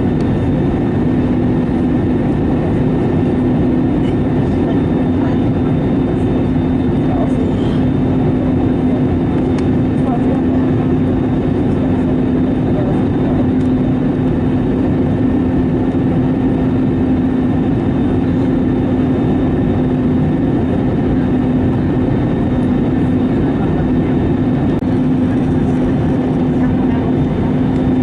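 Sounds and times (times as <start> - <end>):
jet airliner cabin noise: 0.0 - 28.0.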